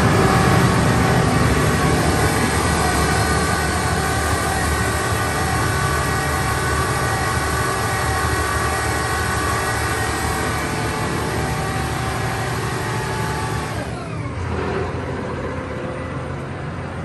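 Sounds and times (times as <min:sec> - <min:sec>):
asphalt paver machine drone: 0:00.0 - 0:17.0.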